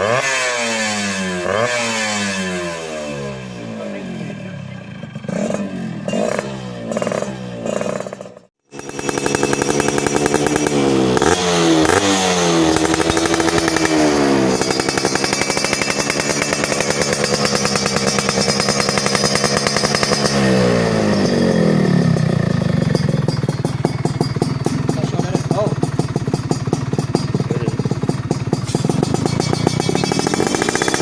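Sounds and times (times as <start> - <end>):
two-stroke engine revving: 0.0 - 31.0.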